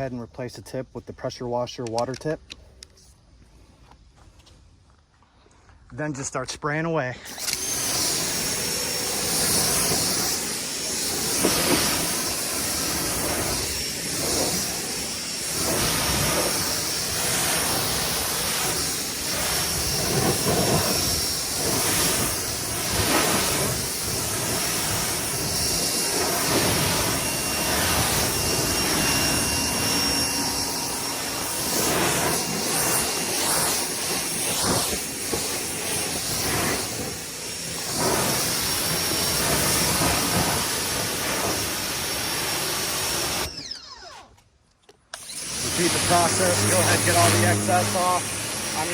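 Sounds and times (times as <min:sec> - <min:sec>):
pressure washer water spray: 0:07.3 - 0:43.6, 0:45.2 - 0:48.9.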